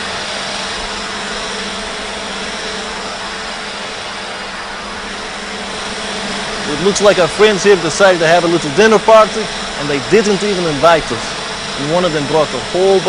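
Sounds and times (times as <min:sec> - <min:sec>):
drone rotors whirring: 0:00.0 - 0:13.0.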